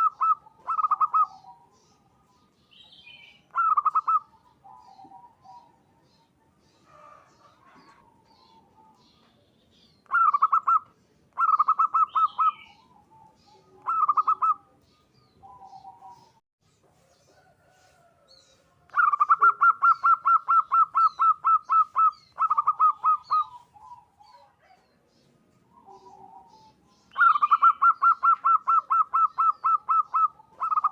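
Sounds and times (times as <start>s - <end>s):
dove cooing: 0.0s - 2.4s, 3.1s - 9.3s, 10.0s - 16.4s, 18.9s - 30.9s
faint bird chirps: 0.0s - 30.9s.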